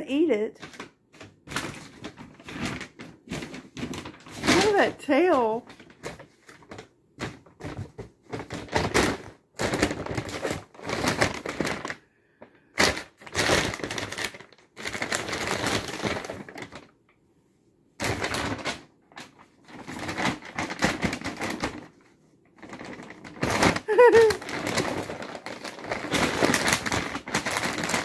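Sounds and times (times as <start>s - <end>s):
paper bag crinkling: 0.6s - 12.0s, 12.7s - 17.0s, 18.0s - 28.0s.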